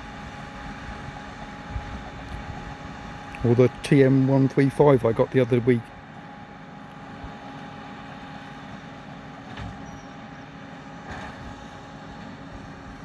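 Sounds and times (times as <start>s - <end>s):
tractor and baler drone: 0.0s - 13.0s.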